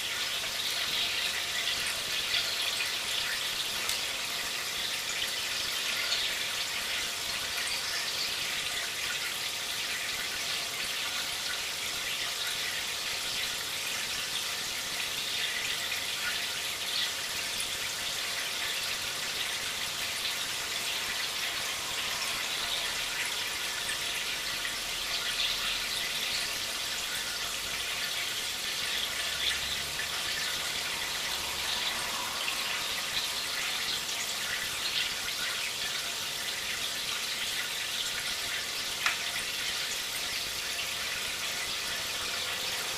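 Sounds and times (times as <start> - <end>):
water trickling in a fish tank: 0.0 - 42.9.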